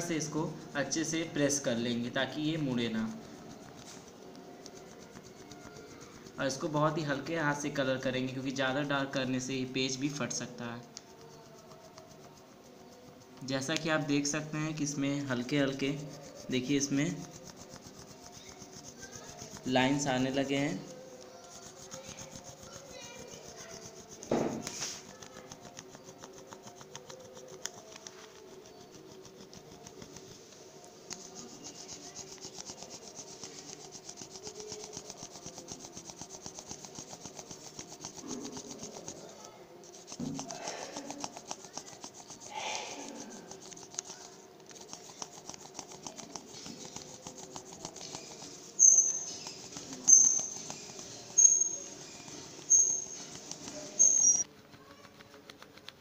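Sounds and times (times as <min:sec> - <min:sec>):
pencil scratching on paper: 0:00.0 - 0:56.0.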